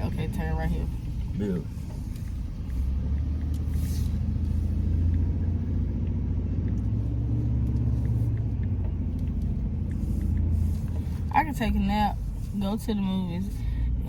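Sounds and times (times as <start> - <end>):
car engine drone: 0.0 - 14.0
road noise: 0.0 - 14.0.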